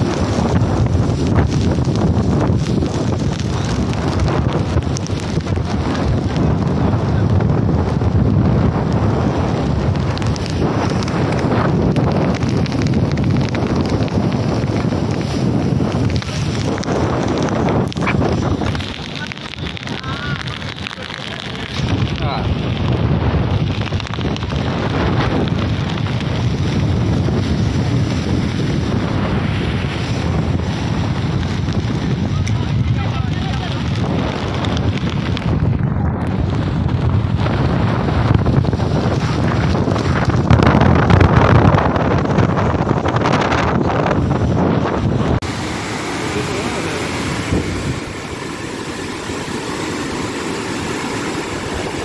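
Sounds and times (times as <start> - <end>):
floodwater rushing in river: 0.0 - 52.0
surf breaking on beach: 0.0 - 52.0
wind buffeting microphone: 0.0 - 52.0.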